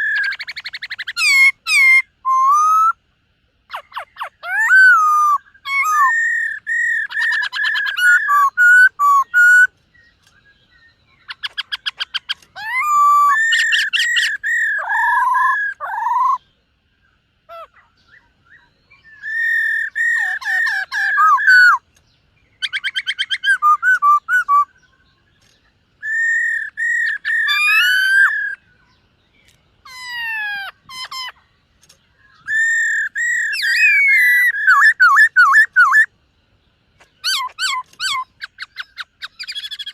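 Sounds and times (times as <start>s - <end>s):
bird singing whistled phrases: 0.0s - 3.0s, 3.7s - 16.5s, 17.5s - 21.8s, 22.6s - 25.1s, 26.0s - 28.9s, 32.2s - 36.1s, 37.2s - 39.9s.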